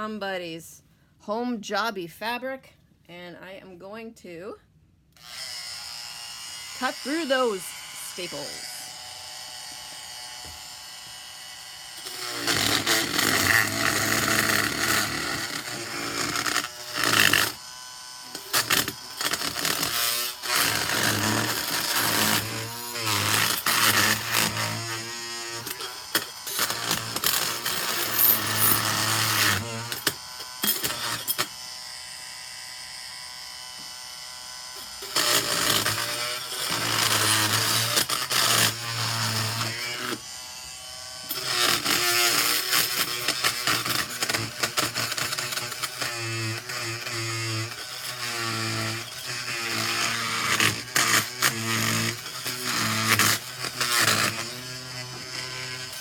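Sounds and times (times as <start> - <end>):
oscillating saw buzzing: 5.2 - 56.0.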